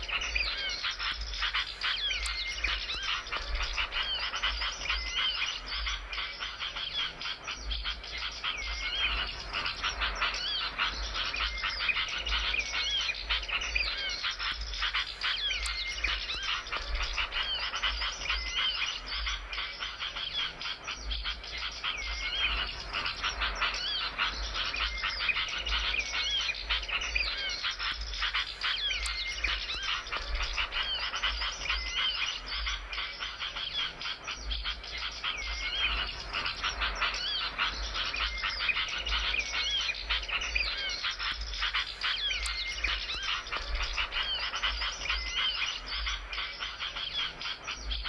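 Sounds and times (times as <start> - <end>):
small songbirds chirping: 0.0 - 48.0.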